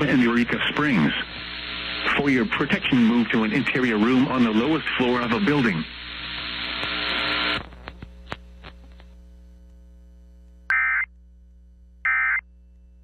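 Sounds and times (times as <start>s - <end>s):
radio static hiss: 0.0s - 11.1s, 12.1s - 12.4s
mains hum: 0.0s - 13.0s.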